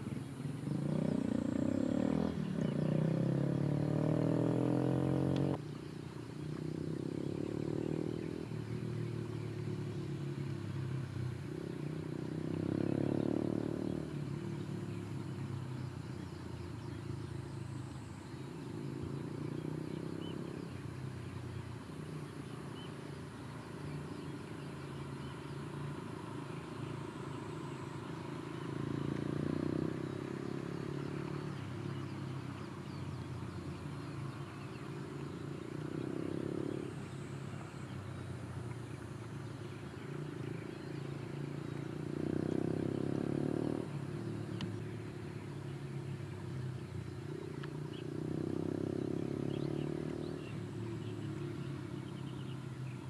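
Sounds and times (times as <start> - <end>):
distant vehicle hum: 0.0 - 53.0.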